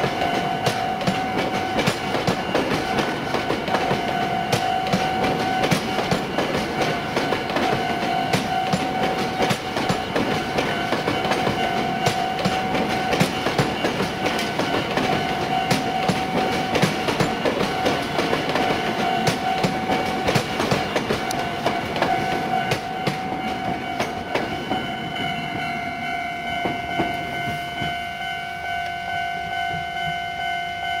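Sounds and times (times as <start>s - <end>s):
wheels clacking over rail joints: 0.0s - 25.8s
level crossing bell ringing: 0.0s - 31.0s.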